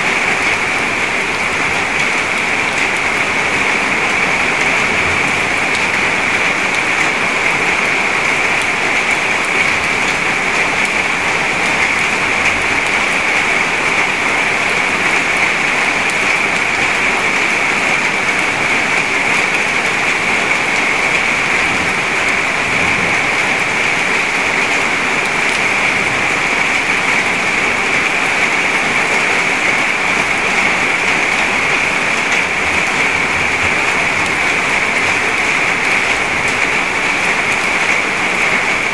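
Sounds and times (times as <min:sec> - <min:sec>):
heavy rain splashing into puddle: 0:00.0 - 0:38.9.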